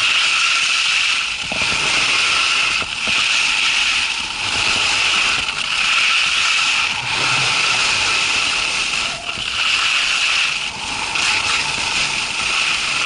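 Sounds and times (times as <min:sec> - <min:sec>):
skis sliding over snow: 0:00.0 - 0:13.0.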